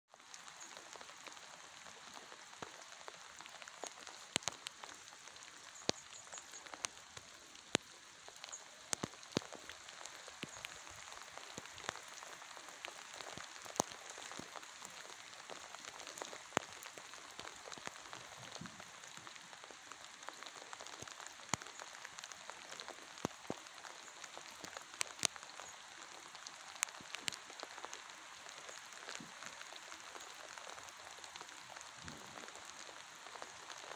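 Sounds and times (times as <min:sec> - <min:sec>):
rain hissing on grass: 0:00.1 - 0:33.9
raindrops tapping: 0:00.1 - 0:33.9.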